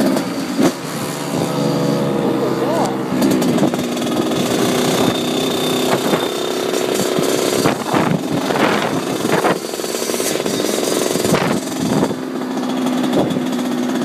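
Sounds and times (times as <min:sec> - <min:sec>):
dirtbike engine running: 0:00.0 - 0:14.0.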